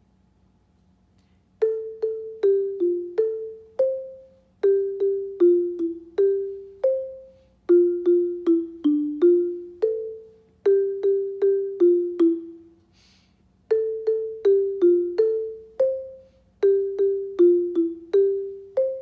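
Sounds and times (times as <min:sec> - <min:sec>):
xylophone melody: 0:01.6 - 0:12.8, 0:13.7 - 0:19.0.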